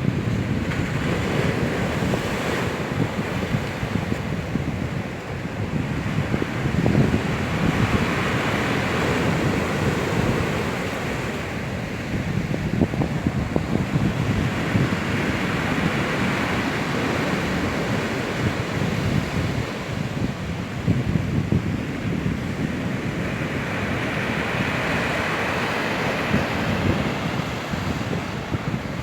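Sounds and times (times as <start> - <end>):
surf breaking on shore: 0.0 - 29.0
wind buffeting microphone: 0.0 - 29.0.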